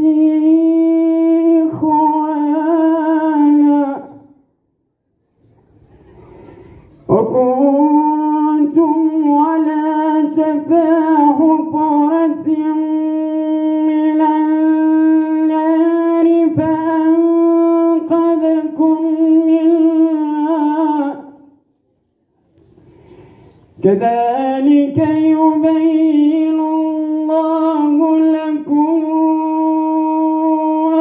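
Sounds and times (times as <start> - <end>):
person chanting melodically: 0.0 - 4.6, 7.0 - 21.7, 23.8 - 31.0.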